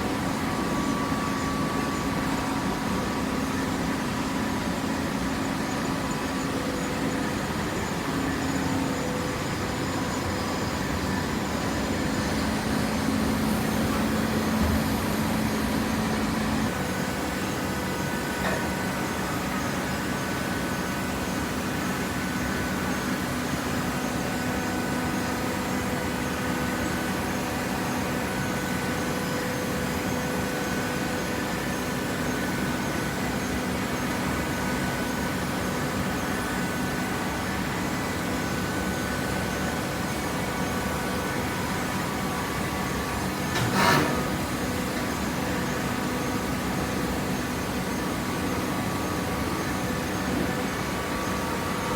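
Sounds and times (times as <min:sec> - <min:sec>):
hydraulic power unit humming: 0:00.0 - 0:51.9.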